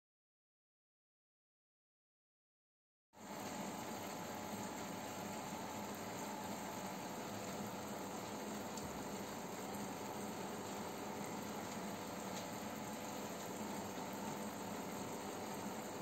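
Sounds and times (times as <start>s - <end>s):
aquarium filter watery hiss: 3.2s - 16.0s.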